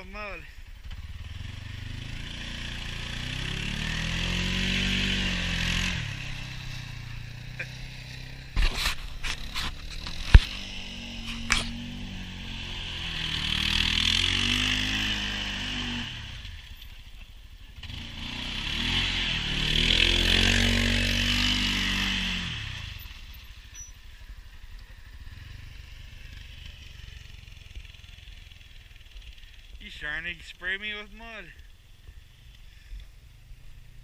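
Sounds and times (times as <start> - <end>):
wheels spinning in mud: 0.6 - 34.0
engine revving: 0.7 - 17.1, 17.7 - 31.6.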